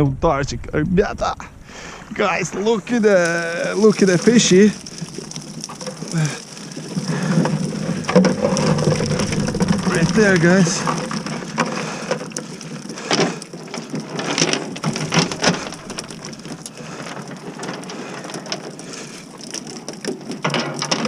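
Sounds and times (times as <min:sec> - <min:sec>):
water splashing and dripping: 0:01.6 - 0:21.0.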